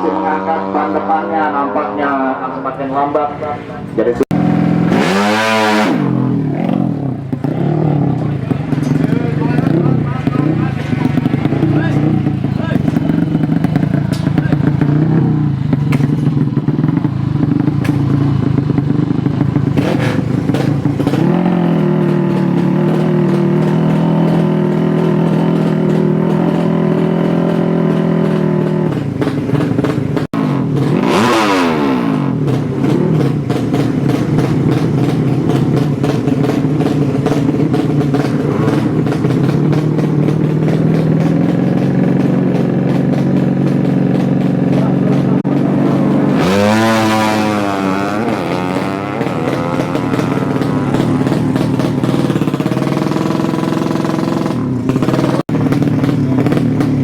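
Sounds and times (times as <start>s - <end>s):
motorcycle engines revving high: 0.0s - 57.0s.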